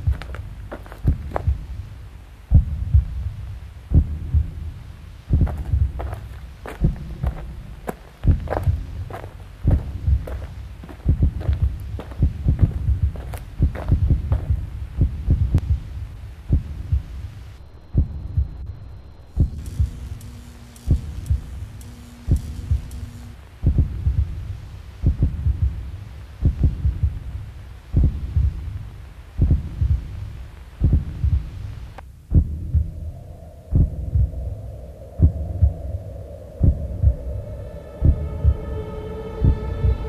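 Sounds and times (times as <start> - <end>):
heartbeat thumps: 0.0 - 40.0
steady hum: 0.0 - 40.0
sustained drone tones: 0.0 - 40.0.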